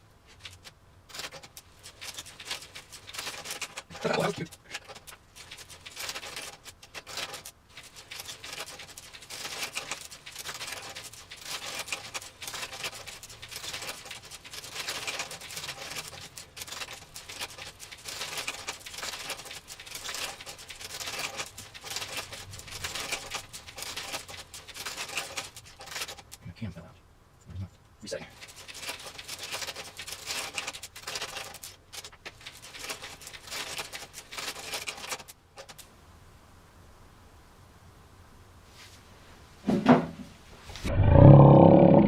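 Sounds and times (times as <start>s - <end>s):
wooden gears and chain clattering: 0.3s - 26.4s, 28.2s - 35.9s.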